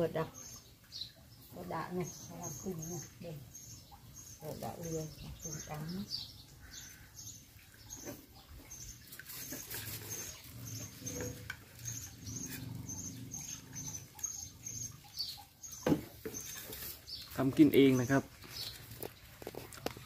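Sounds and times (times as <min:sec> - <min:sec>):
small bird chirping: 0:00.1 - 0:19.3.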